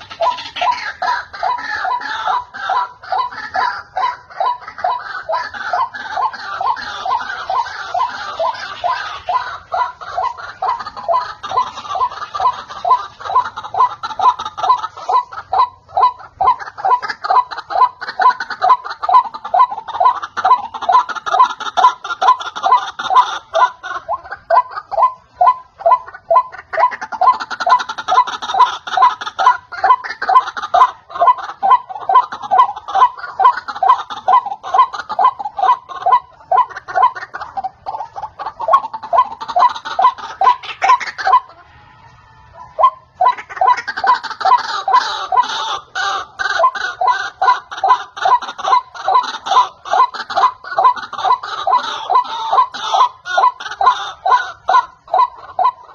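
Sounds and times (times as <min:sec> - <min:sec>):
waterhen calling harsh notes: 0:00.0 - 0:55.9.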